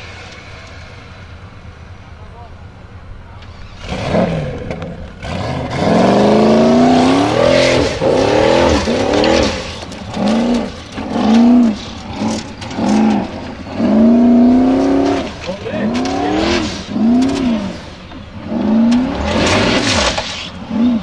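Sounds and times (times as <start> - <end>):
buggy engine revving: 0.0 - 21.0.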